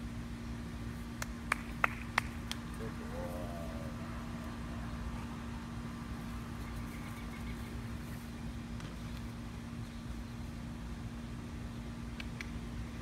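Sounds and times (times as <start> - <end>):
steady low machinery hum: 0.0 - 13.0.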